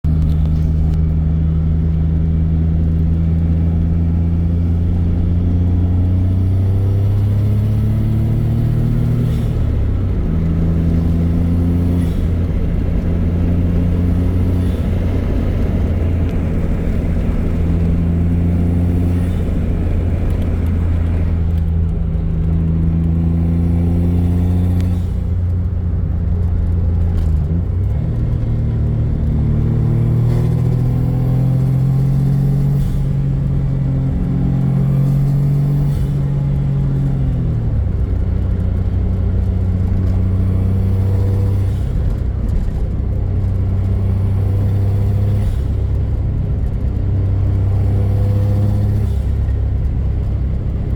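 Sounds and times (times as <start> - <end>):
turbocharged car engine revving: 0.1 - 50.9.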